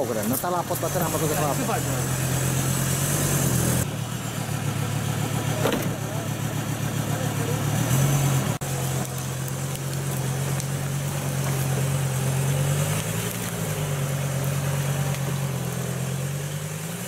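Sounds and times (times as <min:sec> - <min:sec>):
diesel engine running at low revs: 0:00.0 - 0:17.0.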